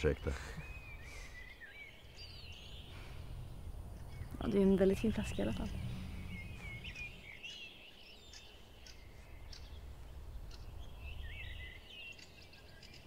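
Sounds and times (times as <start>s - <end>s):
small birds singing: 0.0s - 13.0s
faint low rumble: 2.0s - 12.6s.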